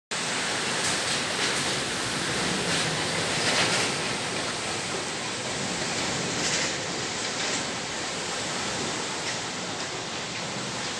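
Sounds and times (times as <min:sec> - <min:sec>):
heavy rain in strong wind: 0:00.1 - 0:10.9.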